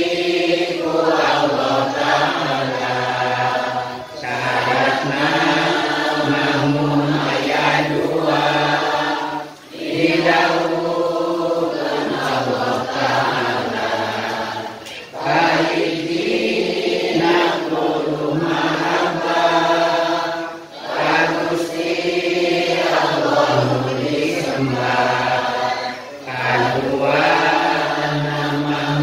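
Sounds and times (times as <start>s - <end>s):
voices chanting devotional verse: 0.0s - 29.0s.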